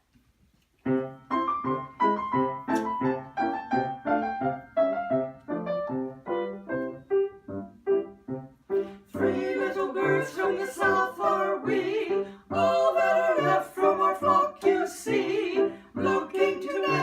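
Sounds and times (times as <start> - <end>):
piano playing: 0.8 - 17.0.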